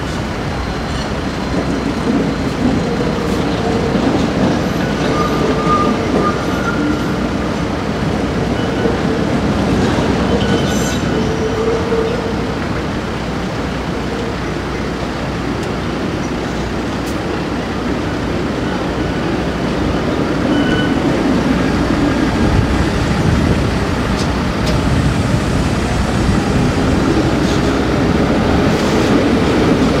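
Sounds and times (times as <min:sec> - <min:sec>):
tram rolling rumble: 0:00.0 - 0:30.0.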